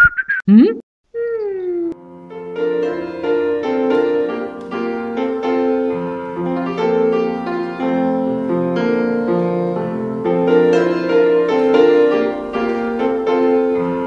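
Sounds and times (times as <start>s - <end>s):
piano music: 1.8s - 14.0s.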